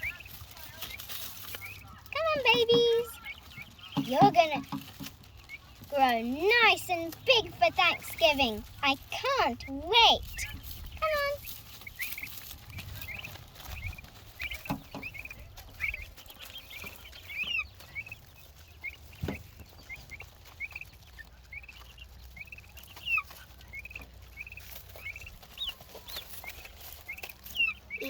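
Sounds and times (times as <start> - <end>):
young turkeys peeping: 0.0 - 28.0.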